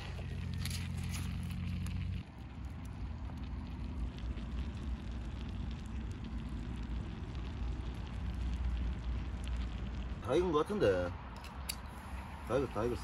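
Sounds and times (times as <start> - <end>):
fire crackling and popping: 0.0 - 13.0
juices bubbling and sizzling: 0.0 - 13.0
low steady rumble: 0.0 - 13.0.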